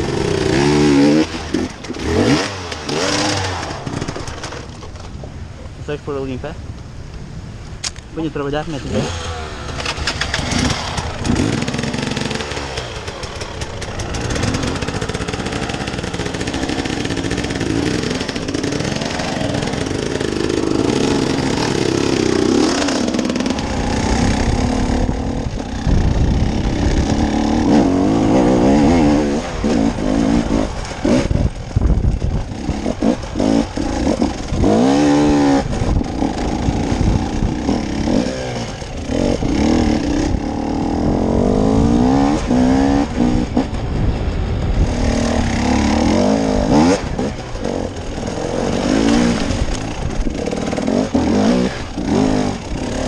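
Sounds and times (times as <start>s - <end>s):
off-road engine revving: 0.0s - 5.0s, 8.2s - 53.0s.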